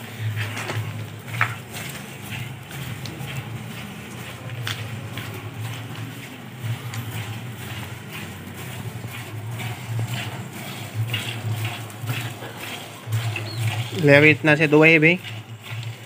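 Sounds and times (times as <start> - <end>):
milk squirting into plastic bucket: 0.3 - 16.0.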